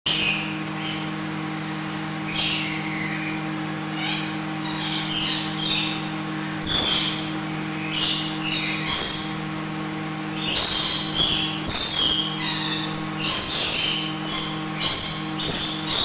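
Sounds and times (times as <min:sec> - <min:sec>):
steady low hum: 0:00.1 - 0:16.0
parrots screeching and chirping: 0:02.3 - 0:09.6, 0:10.3 - 0:16.0.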